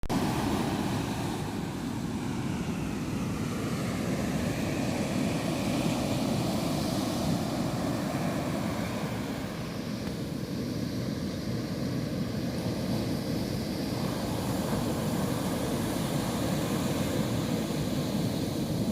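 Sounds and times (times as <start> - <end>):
ocean waves breaking: 0.1 - 18.9.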